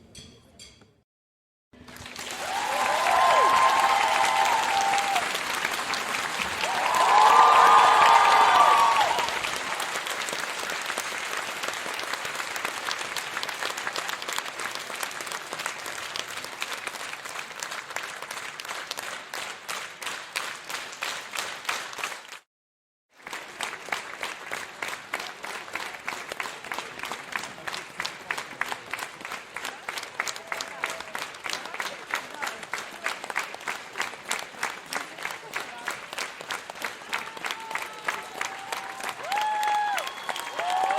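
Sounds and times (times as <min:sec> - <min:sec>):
crowd applause: 0:01.8 - 0:22.4, 0:23.2 - 0:40.9.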